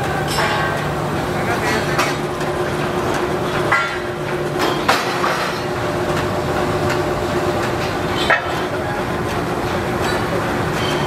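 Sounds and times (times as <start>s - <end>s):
rolling mill machinery drone: 0.0s - 11.0s.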